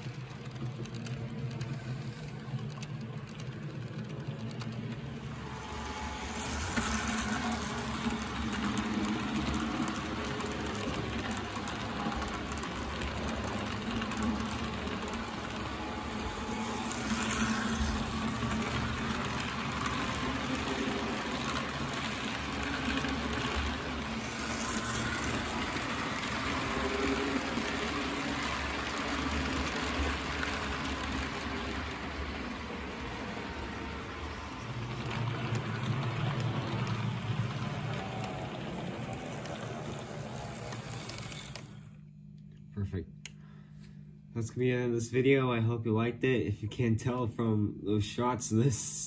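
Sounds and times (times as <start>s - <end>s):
model train wheels rattling: 0.0s - 41.9s
low motor hum: 0.0s - 44.5s.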